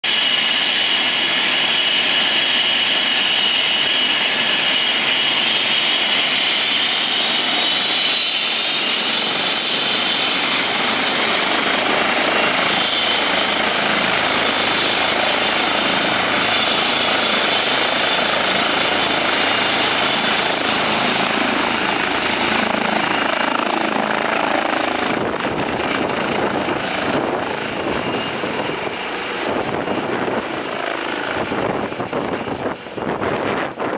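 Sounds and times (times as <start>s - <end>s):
helicopter rotor noise: 0.1s - 33.9s
helicopter turbine whine: 0.1s - 33.9s.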